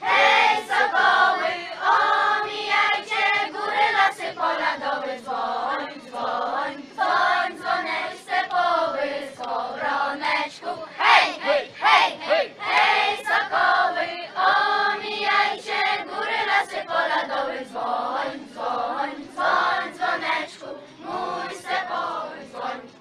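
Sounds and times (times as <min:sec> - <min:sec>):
children singing together: 0:00.0 - 0:23.0.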